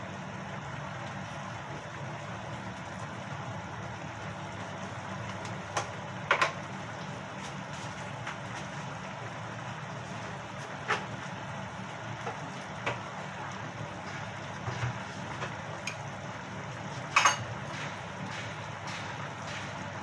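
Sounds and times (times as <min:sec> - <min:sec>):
gas burner humming: 0:00.0 - 0:20.0.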